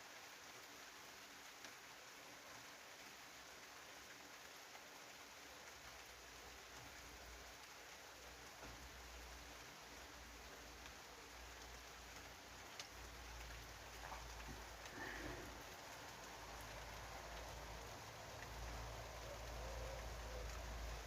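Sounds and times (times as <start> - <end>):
light rain falling: 0.0 - 21.0.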